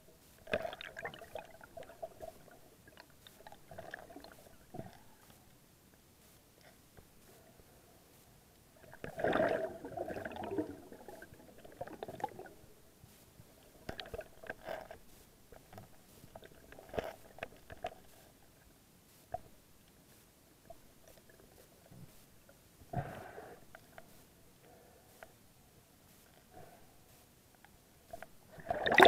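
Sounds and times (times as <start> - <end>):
underwater sloshing and bubbling: 0.1 - 5.6, 6.6 - 19.6, 20.6 - 25.5, 26.3 - 29.0.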